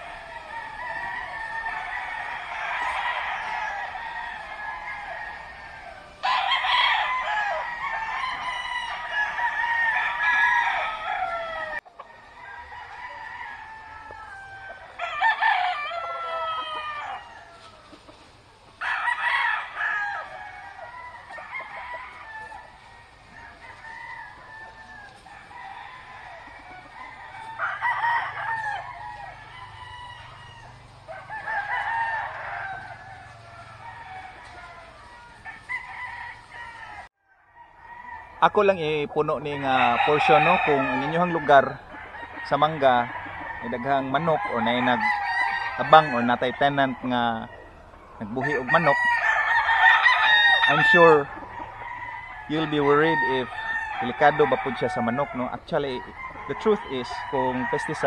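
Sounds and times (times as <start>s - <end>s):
roosters crowing: 0.0s - 58.0s.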